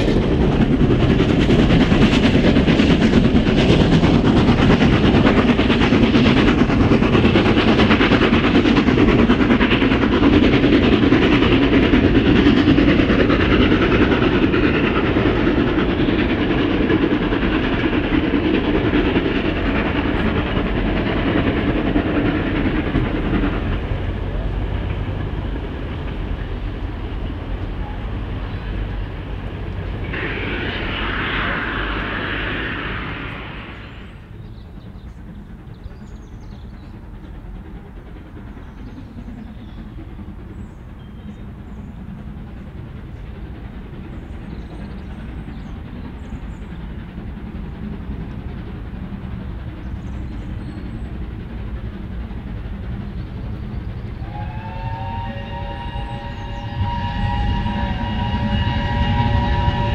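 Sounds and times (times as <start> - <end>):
distant train rumble: 0.0 - 59.9
steam hiss: 0.0 - 59.9
steam train pulling away: 0.0 - 59.9.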